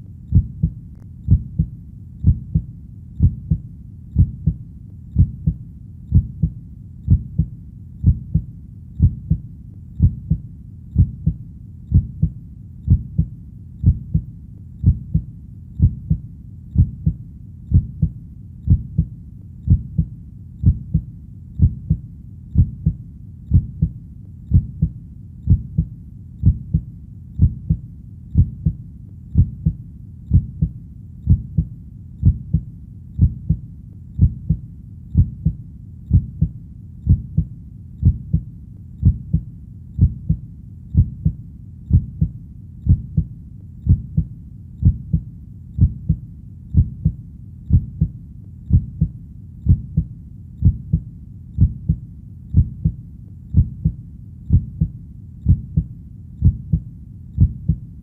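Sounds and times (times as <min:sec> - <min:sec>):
faint low hum: 0:00.0 - 0:58.0
heartbeat: 0:00.0 - 0:58.0.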